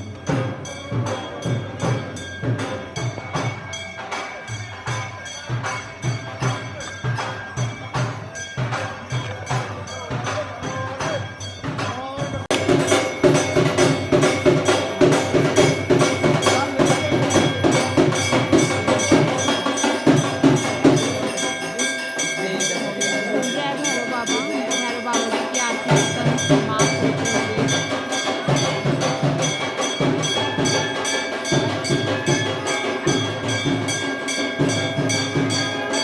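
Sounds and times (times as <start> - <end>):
drums and hand percussion: 0.0 - 36.0
temple bells ringing: 0.0 - 36.0.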